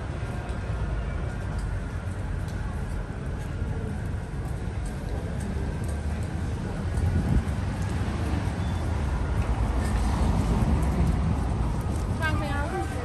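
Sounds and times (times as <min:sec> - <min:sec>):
street rumble: 0:00.0 - 0:13.0.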